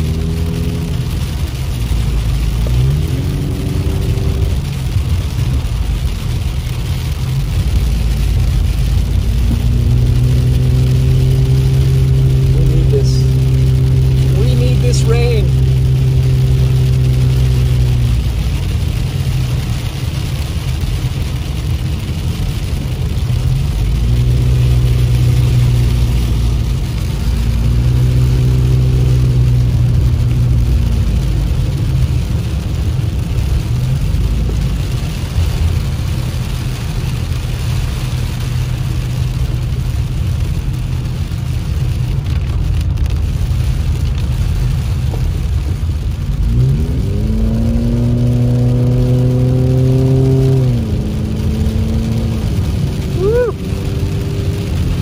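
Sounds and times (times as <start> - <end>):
car engine and tyre noise: 0.0 - 55.0
rain and hail hitting car: 0.0 - 55.0.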